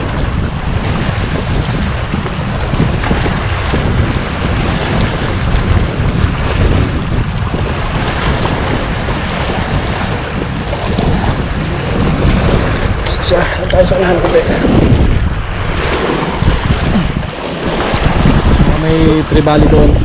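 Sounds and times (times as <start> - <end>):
sea waves on shore: 0.0 - 20.0
wind buffeting microphone: 0.0 - 20.0.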